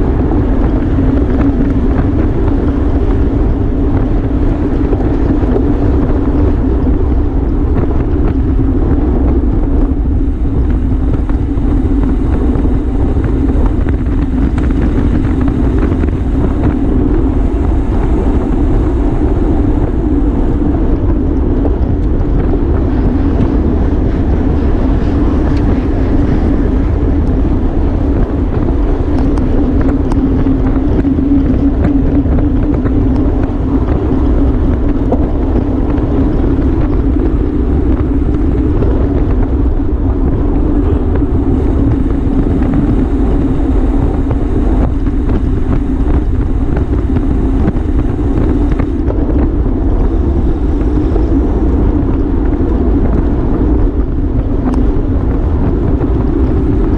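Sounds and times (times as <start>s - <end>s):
steady low hum: 0.0s - 56.9s
wind rushing over microphone: 0.0s - 56.9s.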